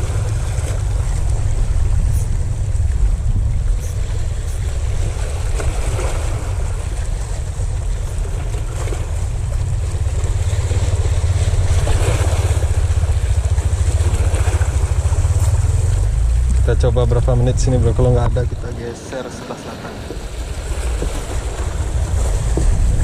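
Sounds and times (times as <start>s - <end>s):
choppy sea: 0.0s - 23.0s
wind buffeting microphone: 0.0s - 23.0s.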